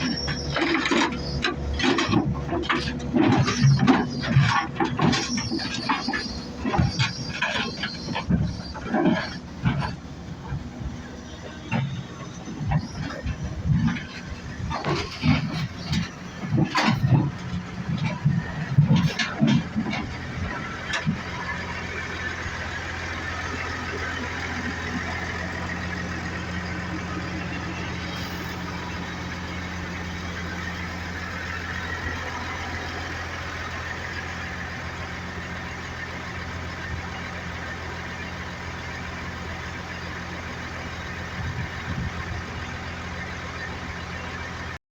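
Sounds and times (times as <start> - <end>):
heavy diesel engine running: 0.0 - 44.8.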